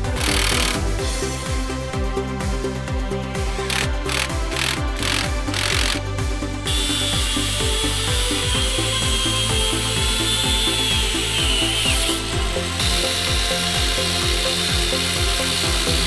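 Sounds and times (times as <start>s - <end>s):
power tool whining: 0.0s - 1.4s, 3.5s - 16.0s
background music with steady beat: 0.0s - 16.0s.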